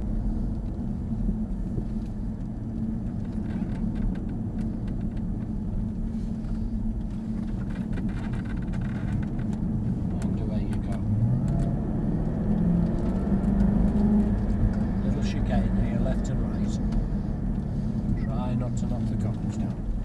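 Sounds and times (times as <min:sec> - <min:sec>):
car engine running steadily: 0:00.0 - 0:20.0
road and tyre noise: 0:00.0 - 0:20.0.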